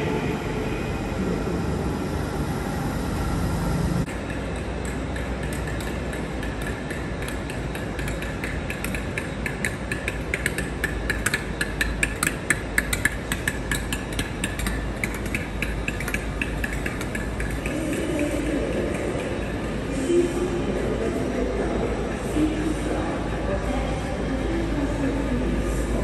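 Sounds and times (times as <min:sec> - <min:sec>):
diesel locomotive idling: 0:00.0 - 0:26.0.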